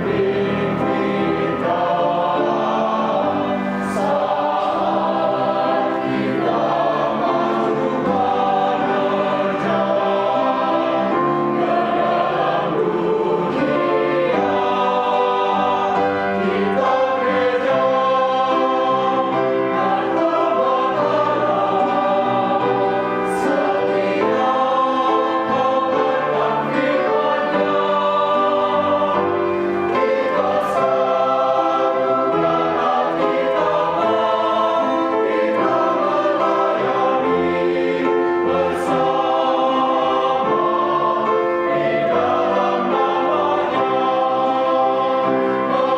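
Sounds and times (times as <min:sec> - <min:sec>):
mixed choir singing an anthem: 0:00.0 - 0:45.9.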